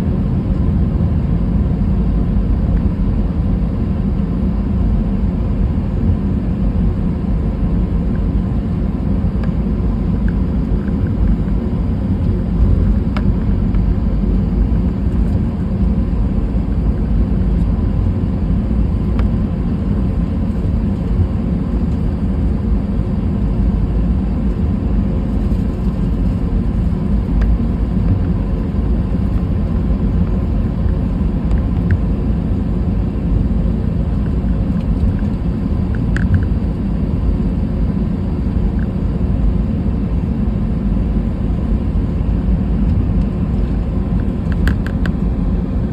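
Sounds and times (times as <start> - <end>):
airliner cabin engine rumble: 0.0 - 45.9.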